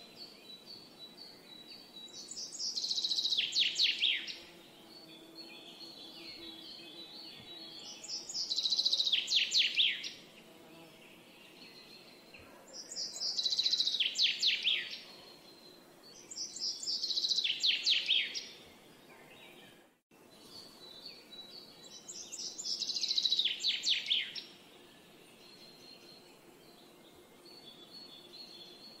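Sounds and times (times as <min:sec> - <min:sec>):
faint steady hiss: 0:00.0 - 0:29.0
songbird singing: 0:00.0 - 0:29.0.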